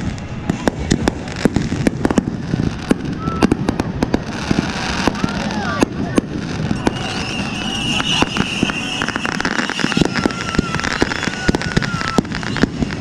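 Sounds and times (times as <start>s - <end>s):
fireworks bangs and crackles: 0.0s - 13.0s
fireworks whistling: 0.0s - 13.0s.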